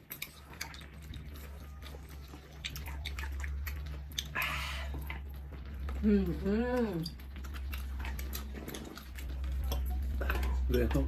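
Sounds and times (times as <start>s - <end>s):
chewing: 0.0s - 11.0s
low hum: 0.1s - 11.0s.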